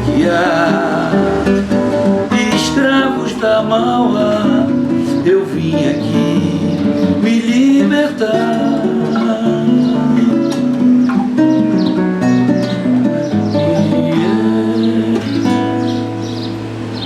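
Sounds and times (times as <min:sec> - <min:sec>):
strummed acoustic guitar samba: 0:00.0 - 0:17.0.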